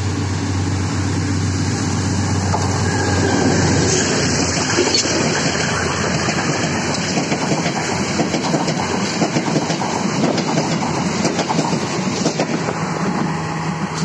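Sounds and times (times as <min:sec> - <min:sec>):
train running gear rattling: 0:02.4 - 0:14.0.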